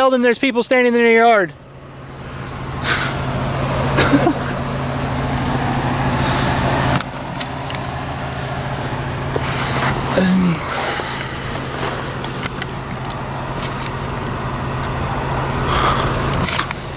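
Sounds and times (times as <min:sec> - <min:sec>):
vehicle engine idling: 0:00.0 - 0:16.9.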